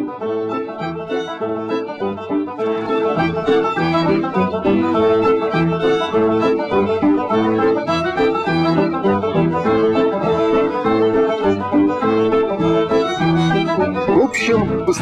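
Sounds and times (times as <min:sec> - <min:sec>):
instrumental music quick notes: 0:00.5 - 0:15.0.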